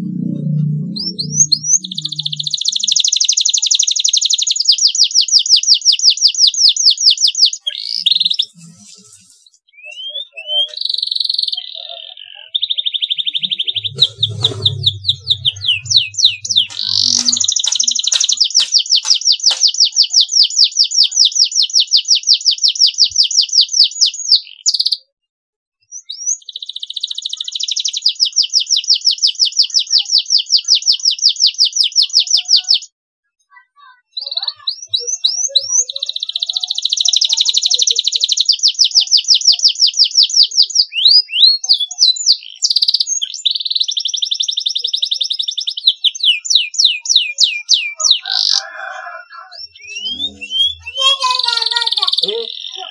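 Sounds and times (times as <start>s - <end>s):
canary singing trills: 0.0s - 25.1s, 25.8s - 32.9s, 33.8s - 52.9s.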